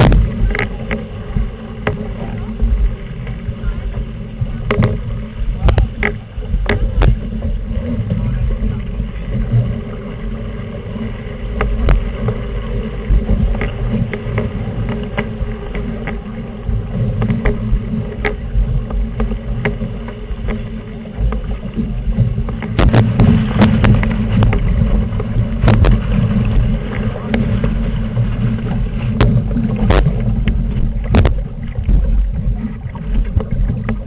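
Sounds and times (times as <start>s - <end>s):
boat knocks and clicks: 0.0s - 34.0s
water rushing along hull: 0.0s - 34.0s
wind buffeting microphone: 0.0s - 34.0s.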